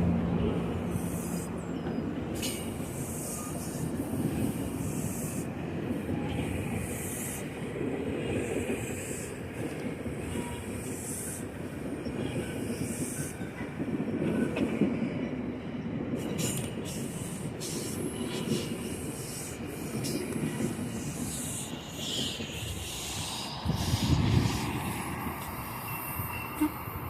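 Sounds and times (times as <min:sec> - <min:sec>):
train rumbling on rails: 0:00.0 - 0:27.0
train wheels squealing: 0:00.8 - 0:07.6, 0:08.2 - 0:15.4, 0:16.2 - 0:27.0.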